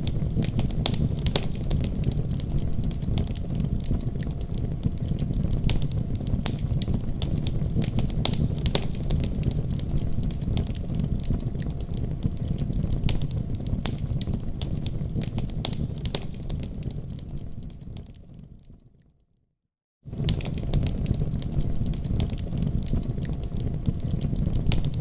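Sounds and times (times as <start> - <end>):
wood fire burning: 0.0 - 19.0, 20.1 - 25.0.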